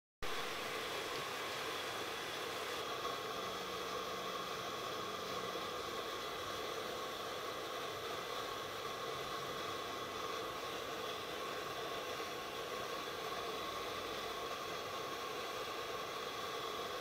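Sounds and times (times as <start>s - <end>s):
facial steamer hissing: 0.2s - 17.0s.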